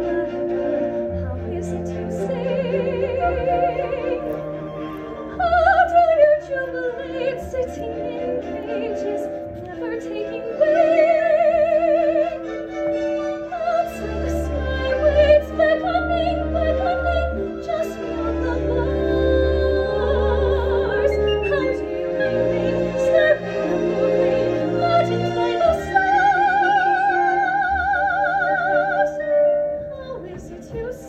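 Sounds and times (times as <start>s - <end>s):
instrumental accompaniment: 0.0s - 31.0s
soprano singing operatic ballad: 0.0s - 31.0s.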